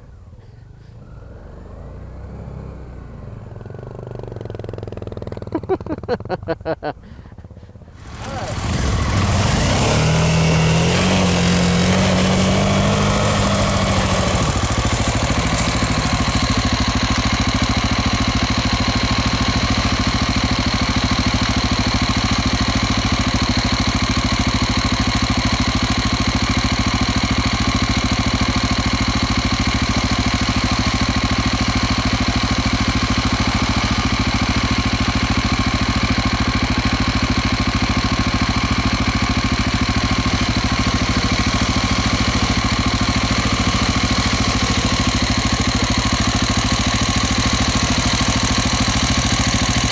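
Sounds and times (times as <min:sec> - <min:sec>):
motorcycle engine idling: 0:00.0 - 0:49.9.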